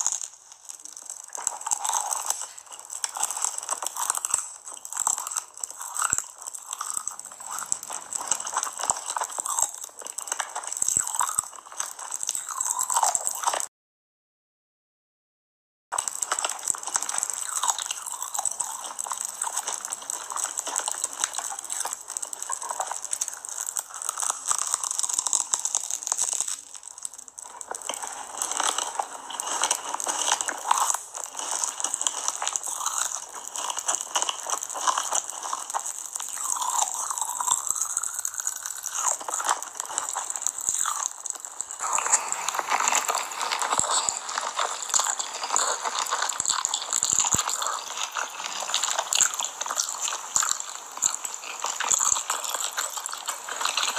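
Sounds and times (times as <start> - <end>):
crunching crispy rice treat: 0.0 - 13.7, 15.9 - 53.9
wet chewing of noodles: 0.0 - 13.7, 16.0 - 53.9.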